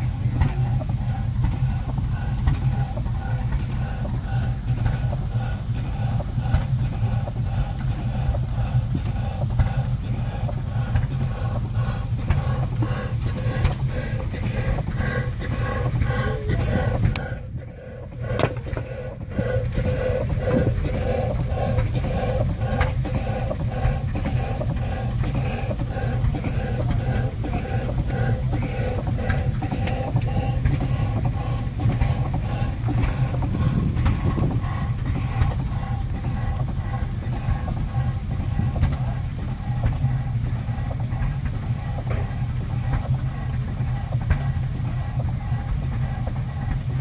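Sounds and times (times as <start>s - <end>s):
steady low rumble: 0.0s - 47.0s
steam engine running: 0.0s - 47.0s.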